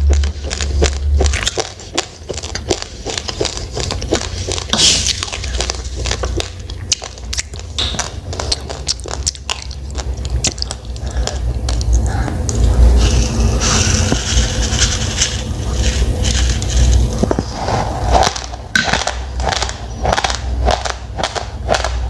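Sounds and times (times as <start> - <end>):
low rumble: 0.0 - 22.0
person chewing raw rice: 0.0 - 22.0.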